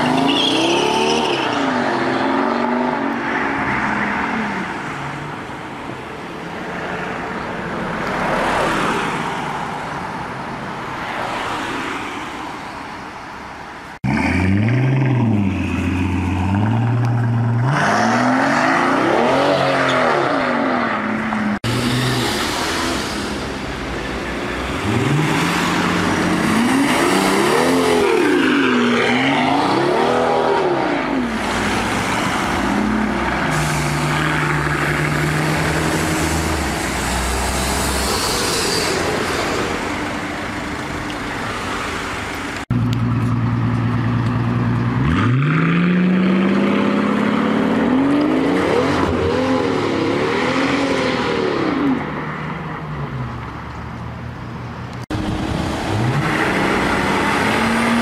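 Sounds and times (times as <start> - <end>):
street traffic: 0.0 - 58.0.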